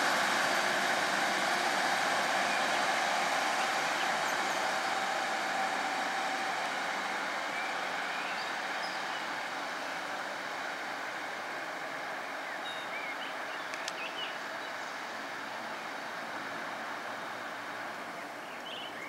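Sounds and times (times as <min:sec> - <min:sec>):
rushing vehicle noise: 0:00.0 - 0:19.0.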